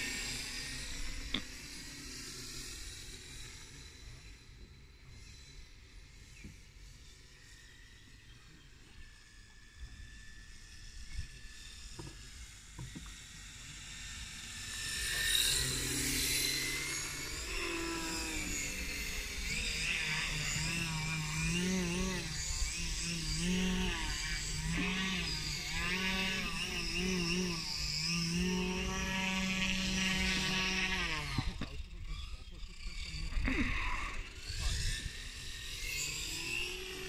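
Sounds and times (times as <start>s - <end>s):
model plane propeller droning: 0.0s - 37.0s.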